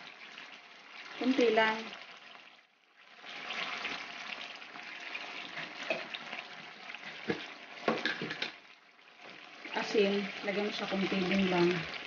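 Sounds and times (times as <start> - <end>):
fish sizzling in a wok: 0.0 - 12.0.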